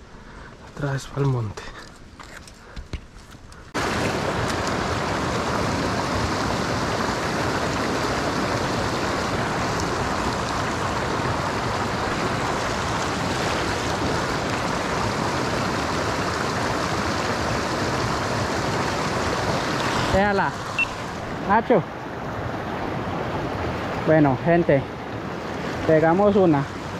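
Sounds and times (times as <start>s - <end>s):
creek rushing over rocks: 3.7s - 26.9s.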